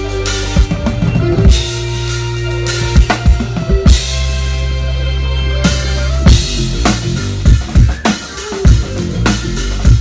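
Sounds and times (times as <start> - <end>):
deep bass notes: 0.0 - 8.0, 8.7 - 10.0
live band playing loud music: 0.0 - 10.0.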